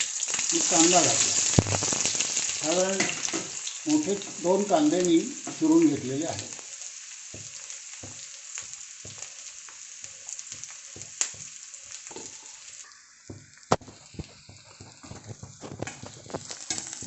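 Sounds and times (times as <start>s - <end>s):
onions sizzling in oil: 0.0s - 17.0s
metal spatula stirring onions: 0.1s - 17.0s.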